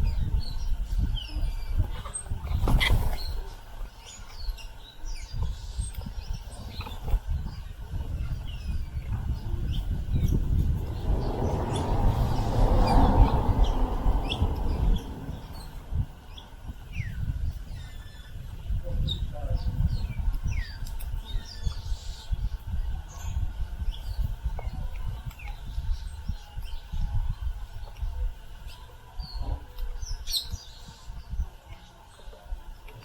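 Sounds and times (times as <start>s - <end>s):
low rumbling noise: 0.0s - 33.0s
small birds chirping: 0.0s - 33.0s.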